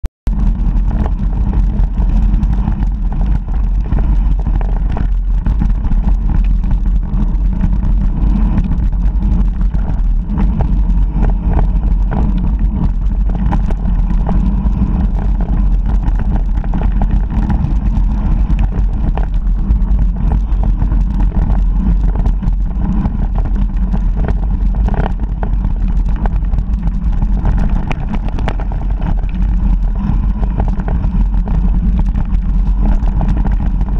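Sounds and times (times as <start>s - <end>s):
wind buffeting microphone: 0.3s - 33.9s
bike rattles and knocks: 0.5s - 33.9s.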